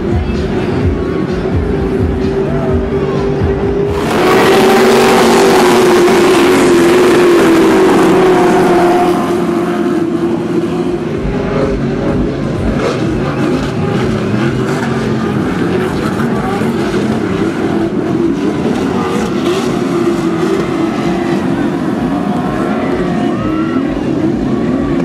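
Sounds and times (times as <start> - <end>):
off-road vehicles passing: 0.0 - 25.0.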